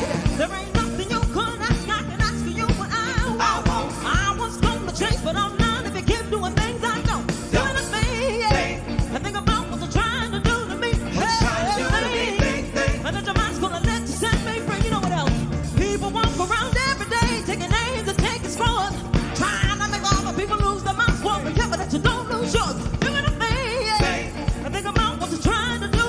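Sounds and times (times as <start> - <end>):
live band playing soul music: 0.0 - 26.0
steady drum beat: 0.0 - 26.0.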